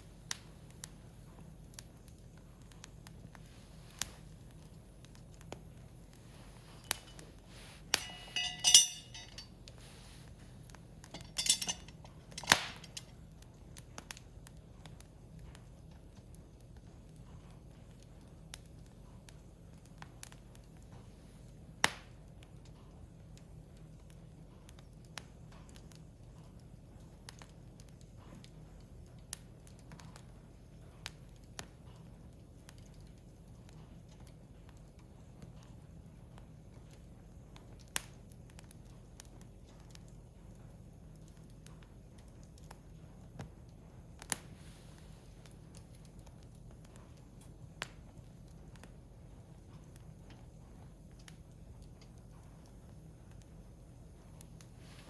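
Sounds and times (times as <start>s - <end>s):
firewood popping and crackling: 0.1s - 55.0s.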